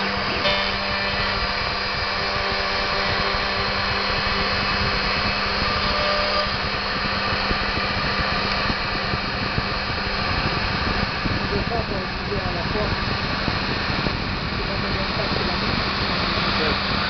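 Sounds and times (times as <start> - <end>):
milling machine spindle motor humming: 0.0 - 17.0.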